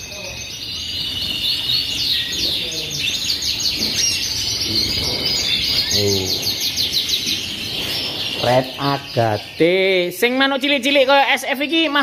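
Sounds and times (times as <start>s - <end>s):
canaries chirping and trilling: 0.0s - 12.0s.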